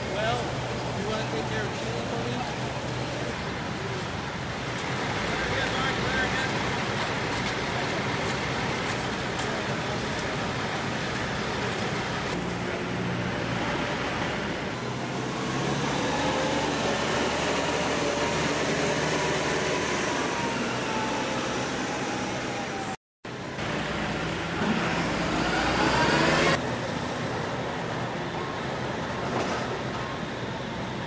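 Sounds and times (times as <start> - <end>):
engine running steadily: 0.0 - 31.0
street traffic: 0.0 - 31.0.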